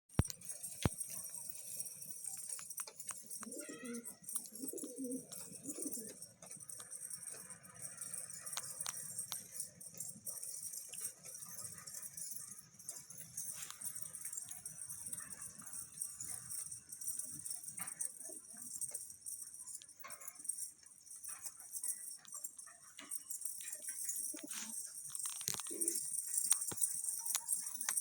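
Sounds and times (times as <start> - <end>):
pigeons cooing: 0.5 - 19.0, 23.9 - 27.9.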